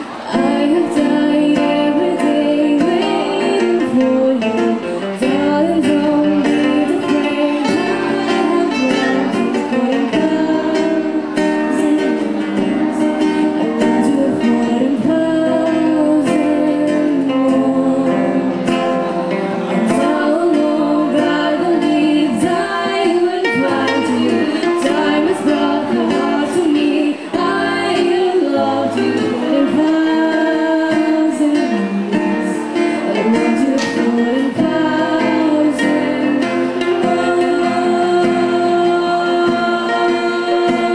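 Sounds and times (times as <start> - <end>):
guitar: 0.0 - 40.9
person singing: 0.0 - 40.9.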